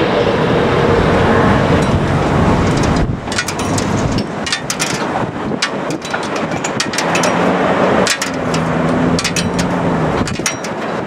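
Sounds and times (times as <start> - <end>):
low engine hum: 0.0 - 11.0
sharp clicks or knocks: 1.8 - 11.0.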